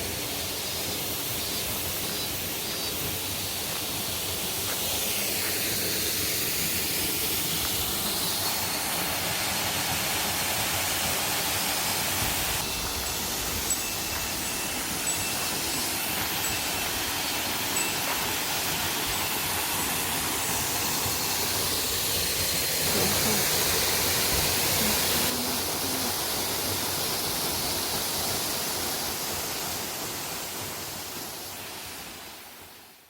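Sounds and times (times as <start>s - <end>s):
waterfall rushing: 0.0s - 32.6s.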